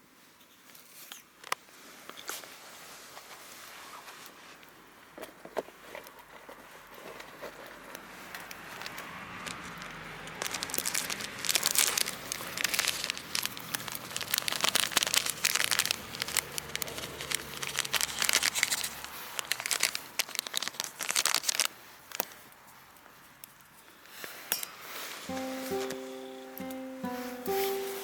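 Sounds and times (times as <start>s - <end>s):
crinkling and rustling: 0.3s - 28.0s.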